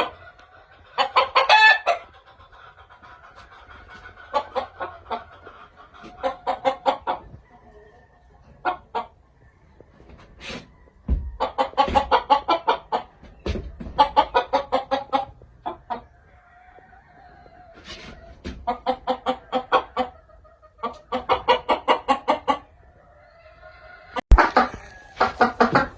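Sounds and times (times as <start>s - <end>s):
chickens clucking rapidly: 0.0s - 25.9s.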